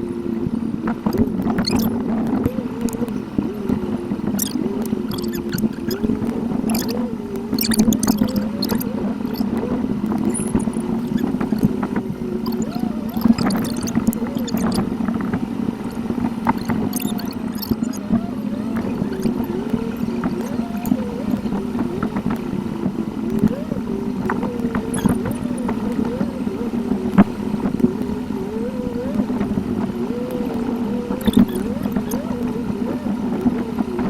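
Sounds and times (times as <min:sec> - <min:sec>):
engine and road hum: 0:00.0 - 0:34.0
wavering high tone: 0:01.0 - 0:15.2, 0:15.8 - 0:34.0.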